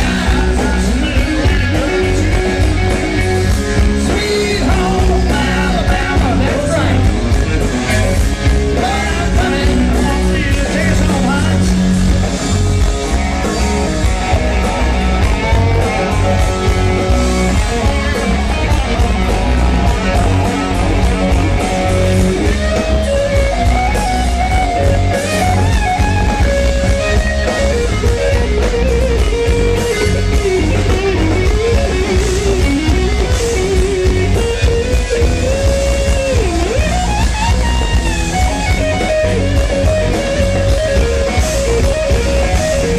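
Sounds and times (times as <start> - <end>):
electric guitar lead: 0.0 - 42.9
live rock band playing: 0.0 - 42.9.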